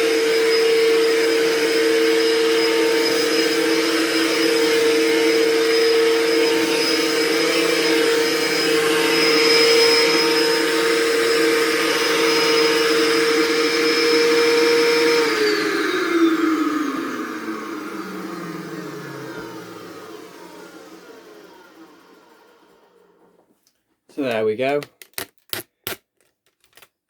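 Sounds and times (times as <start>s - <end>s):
vacuum motor winding down: 0.0s - 23.3s
vacuum cleaner whining: 0.0s - 23.4s.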